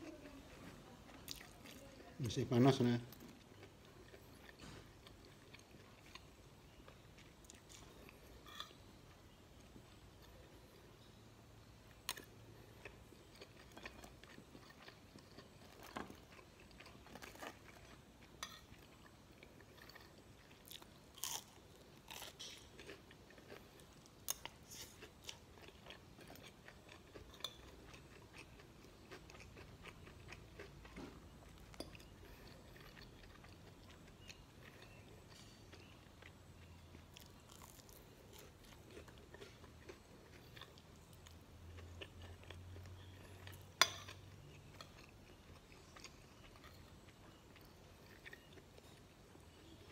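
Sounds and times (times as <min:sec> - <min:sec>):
faint chewing: 0:00.0 - 0:49.9.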